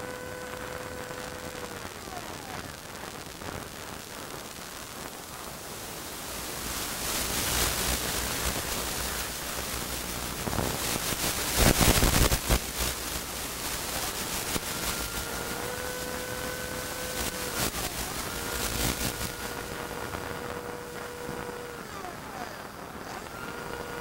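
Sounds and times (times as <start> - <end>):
loud burst of crackling: 0.0 - 24.0
static hiss: 0.0 - 24.0.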